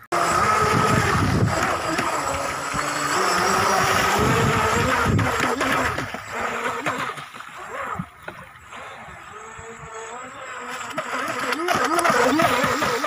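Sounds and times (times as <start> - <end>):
rc boat motor whining: 0.0 - 13.0.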